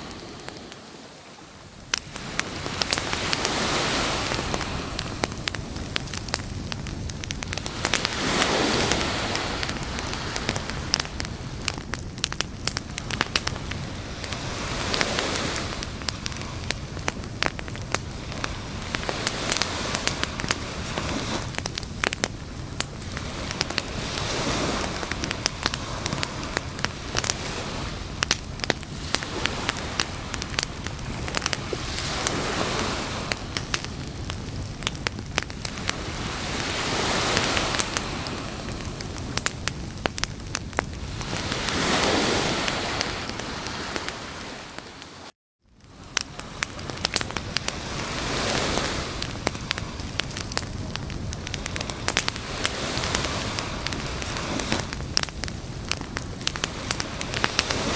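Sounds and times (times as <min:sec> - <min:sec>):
campfire crackling and popping: 0:00.0 - 0:57.9
waves washing on shore: 0:00.0 - 0:57.9.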